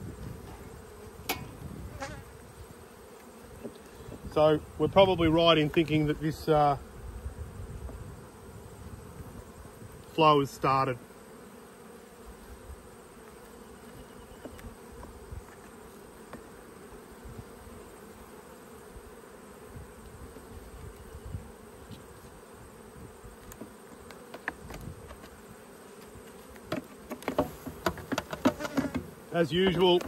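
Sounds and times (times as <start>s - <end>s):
honeybee swarm humming: 0.0s - 30.0s.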